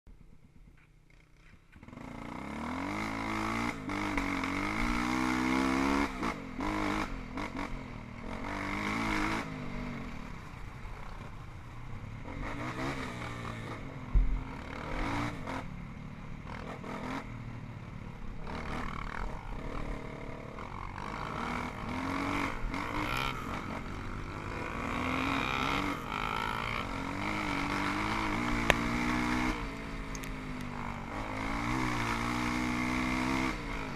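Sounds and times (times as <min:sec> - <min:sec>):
dirt bike engine revving: 0:01.8 - 0:10.4, 0:12.2 - 0:15.7, 0:16.4 - 0:17.4, 0:18.1 - 0:33.9.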